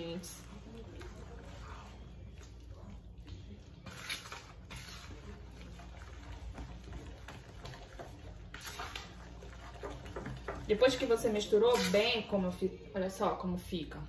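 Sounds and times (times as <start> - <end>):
batter stirred in a bowl: 0.0 - 13.0.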